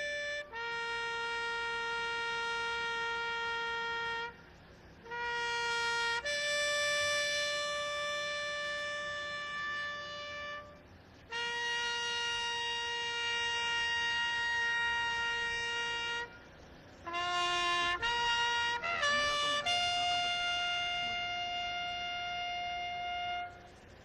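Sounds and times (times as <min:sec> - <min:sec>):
trumpets playing ceremonial call: 0:00.0 - 0:24.0.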